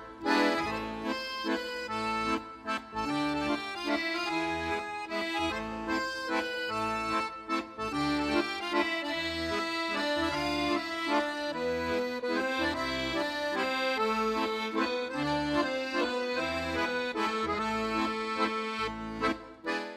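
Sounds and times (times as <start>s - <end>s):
instrumental music with pulsing bass: 0.0s - 19.9s.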